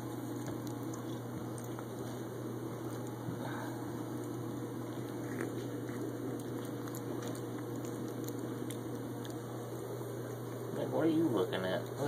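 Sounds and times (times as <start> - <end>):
low hum: 0.0 - 10.7
cat chewing and licking: 0.0 - 12.0.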